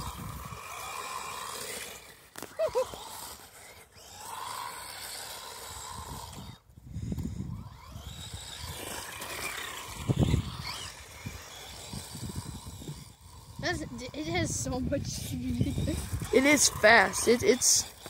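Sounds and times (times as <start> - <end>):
rc car motor whining: 0.0 - 18.0.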